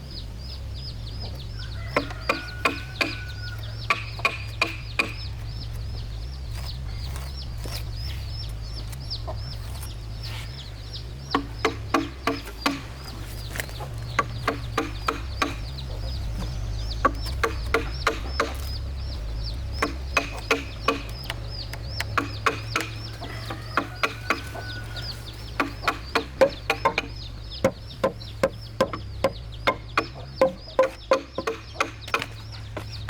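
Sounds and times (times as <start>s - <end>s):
chickens clucking: 0.0s - 33.0s
rapid high chirping: 0.2s - 33.0s
low hum: 3.3s - 33.0s.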